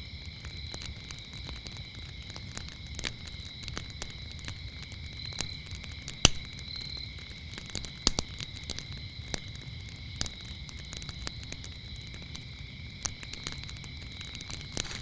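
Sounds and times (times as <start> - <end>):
crickets trilling: 0.0 - 15.0
wood fire crackling and popping: 0.0 - 15.0.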